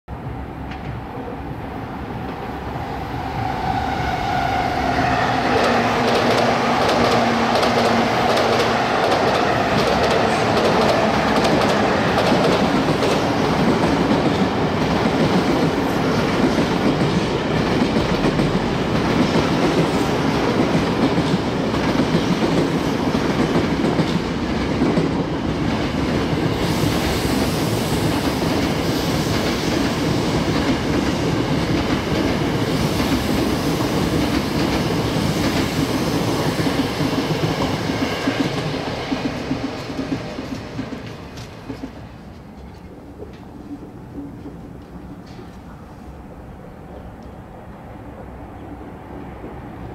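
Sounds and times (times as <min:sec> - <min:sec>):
train wheels rumbling on rails: 0:00.1 - 0:49.9.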